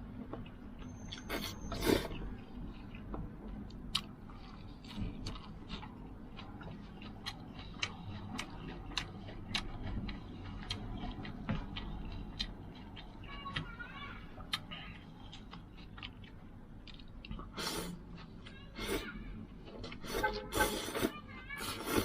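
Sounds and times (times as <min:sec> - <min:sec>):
person chewing noodles: 0:00.0 - 0:22.0.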